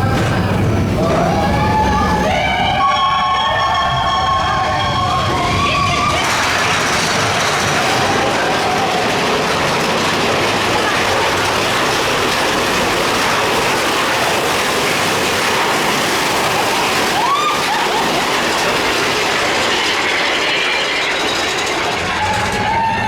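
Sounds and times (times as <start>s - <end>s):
roller coaster train rushing: 0.0s - 23.0s
wheel squeal: 0.0s - 23.0s.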